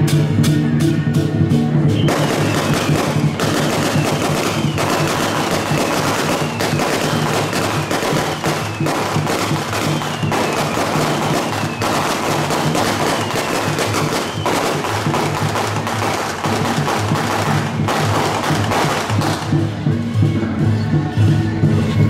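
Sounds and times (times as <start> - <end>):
music playing: 0.0 - 22.0
firecrackers crackling: 2.0 - 20.1.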